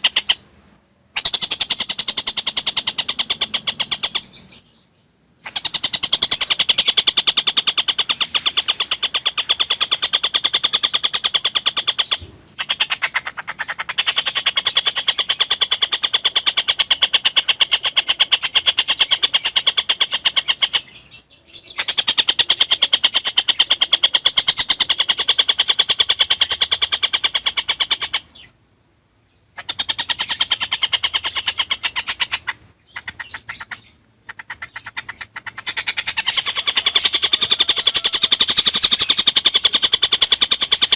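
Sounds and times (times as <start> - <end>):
kingfisher rattling song: 0.0 - 4.7, 5.4 - 28.5, 29.6 - 40.9.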